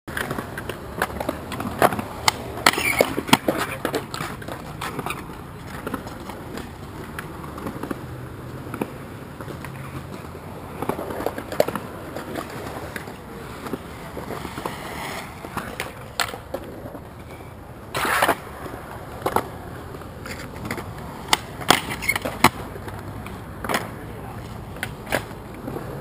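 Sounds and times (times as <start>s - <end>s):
skateboard clacks: 0.1s - 26.0s
skateboard wheels rolling on concrete: 0.1s - 26.0s.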